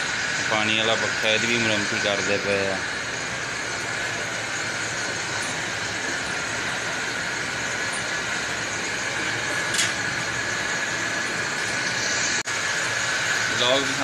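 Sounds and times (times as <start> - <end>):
metal lathe running with hiss: 0.0 - 14.0.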